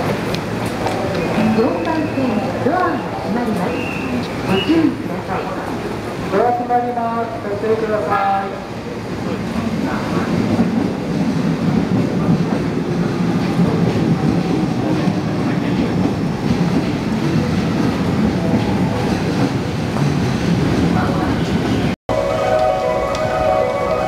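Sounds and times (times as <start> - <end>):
passengers bustling: 0.0 - 24.0
train low rumble: 0.0 - 24.0.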